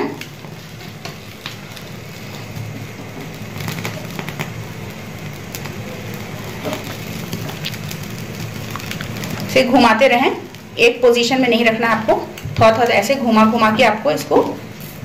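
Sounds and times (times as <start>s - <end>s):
fire rushing: 0.0s - 15.0s
hair crackling and popping in flame: 0.0s - 15.0s.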